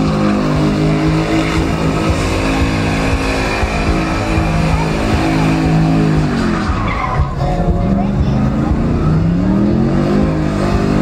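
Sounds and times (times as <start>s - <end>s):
engine at high revs: 0.0s - 11.0s
tyres spinning on pavement: 0.0s - 11.0s.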